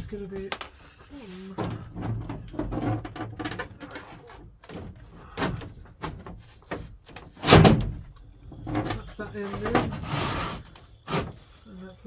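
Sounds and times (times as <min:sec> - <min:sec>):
plastic panel scraping and rustling: 0:00.0 - 0:11.8.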